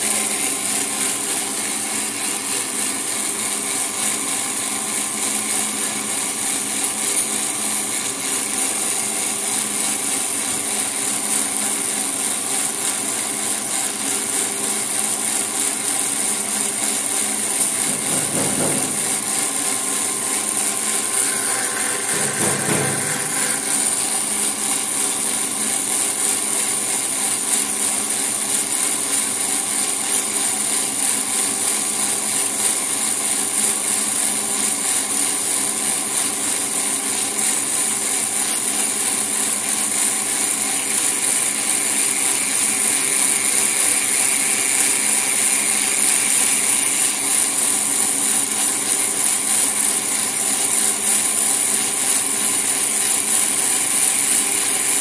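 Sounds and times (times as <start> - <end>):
coil winding machine whining: 0.0 - 55.0.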